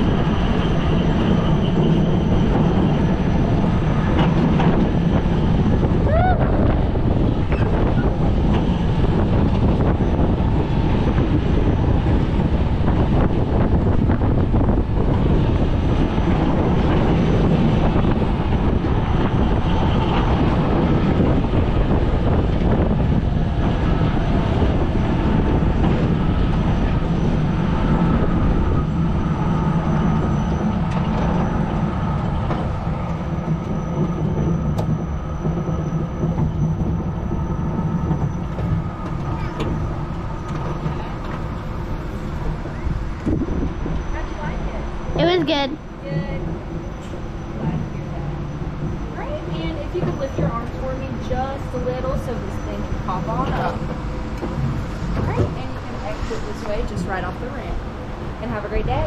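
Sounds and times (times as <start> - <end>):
coaster wheels rumbling on rail: 0.0 - 59.0.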